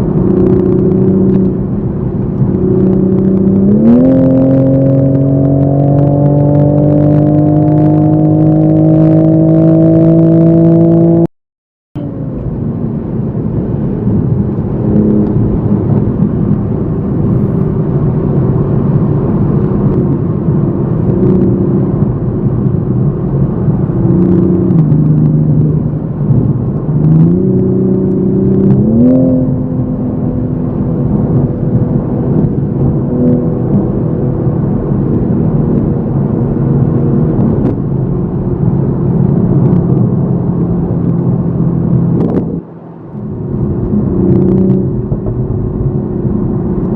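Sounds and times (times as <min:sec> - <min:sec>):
car engine from inside cabin: 0:00.0 - 0:11.3, 0:12.0 - 0:46.9.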